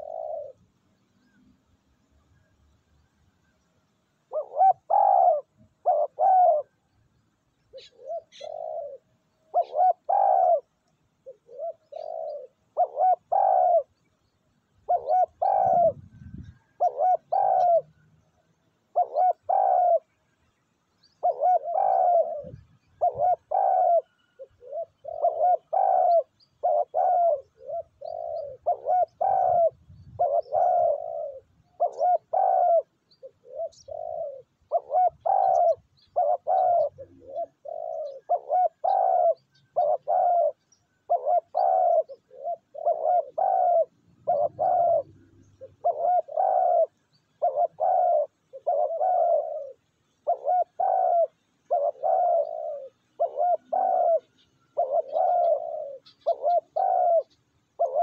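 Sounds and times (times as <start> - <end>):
doves cooing: 0.0 - 2.7, 3.4 - 58.0.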